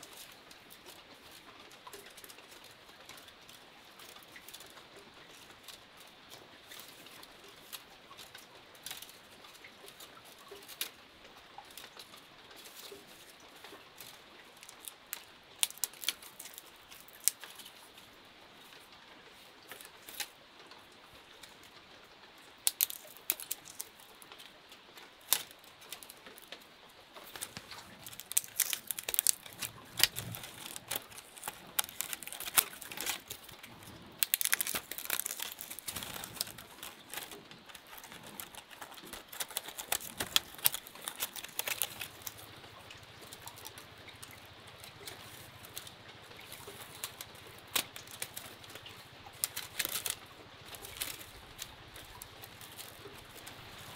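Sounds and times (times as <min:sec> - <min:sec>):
bamboo strips clicking and rustling: 0:00.0 - 0:53.9.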